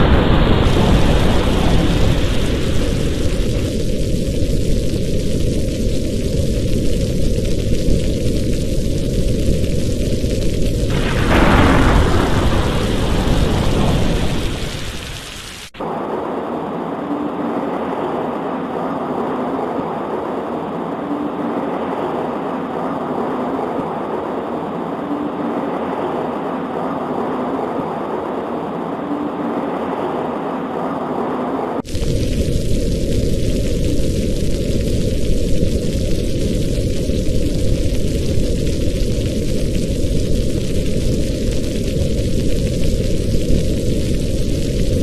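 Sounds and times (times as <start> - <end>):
rolling thunderclap: 0.0 - 28.0, 31.8 - 45.0
rain hissing: 0.0 - 45.0.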